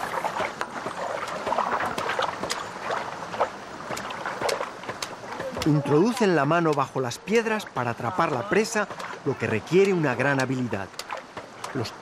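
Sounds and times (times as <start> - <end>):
knocks among rocks: 0.0 - 6.9, 8.2 - 12.0
stream water splashing: 0.0 - 12.0.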